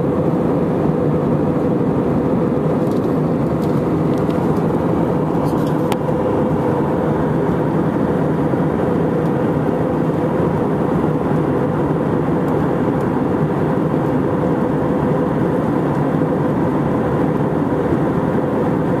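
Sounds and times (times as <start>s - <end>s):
aircraft engine and airflow drone: 0.0s - 19.0s.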